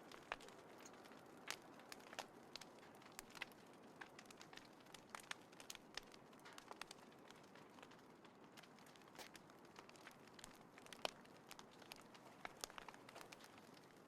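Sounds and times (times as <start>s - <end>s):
soft steady fire hiss: 0.0s - 14.0s
wood fire crackling and popping: 0.0s - 14.0s.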